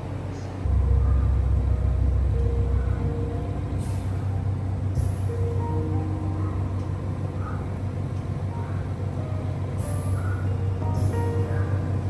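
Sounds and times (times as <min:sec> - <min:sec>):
machine low hum: 0:00.0 - 0:12.0.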